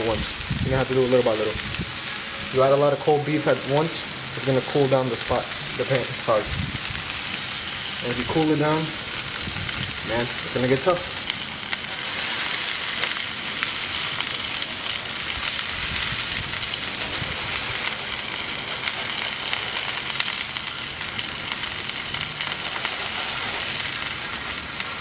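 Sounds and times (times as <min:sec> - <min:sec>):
beef strips sizzling in skillet: 0:00.0 - 0:25.0.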